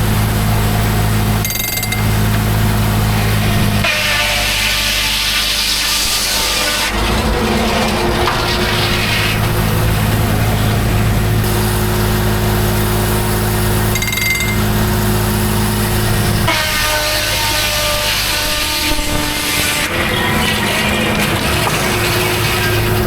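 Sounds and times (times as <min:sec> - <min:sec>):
circular sawmill sawing wood: 0:00.0 - 0:23.0.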